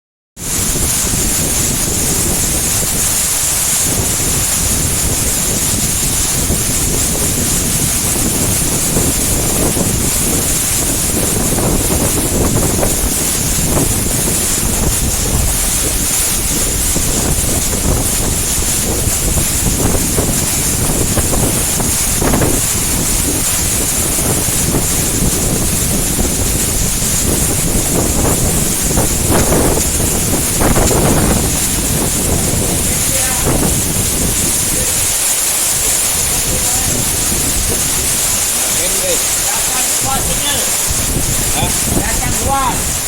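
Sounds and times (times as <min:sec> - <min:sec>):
heavy rain: 0:00.4 - 0:43.0
sea surf: 0:00.4 - 0:43.0
strong wind on microphone: 0:00.4 - 0:43.0.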